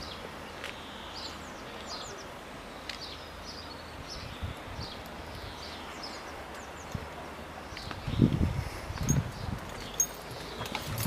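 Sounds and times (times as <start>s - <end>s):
small birds chirping: 0.0s - 11.0s
steady outdoor hiss: 0.0s - 11.0s.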